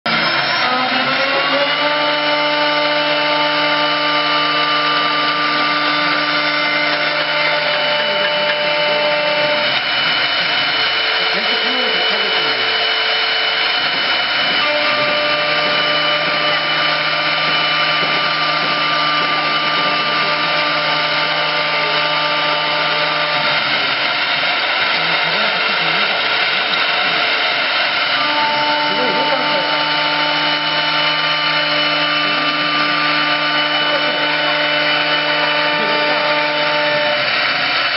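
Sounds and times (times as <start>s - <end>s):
lathe motor whine: 0.0s - 37.9s
wood cutting noise: 0.0s - 37.9s.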